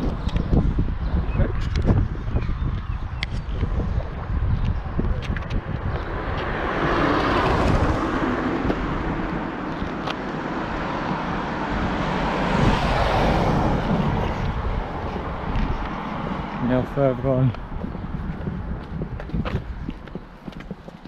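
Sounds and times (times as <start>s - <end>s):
vehicle engine and tyre noise: 0.0s - 21.0s
wind buffeting microphone: 0.0s - 21.0s.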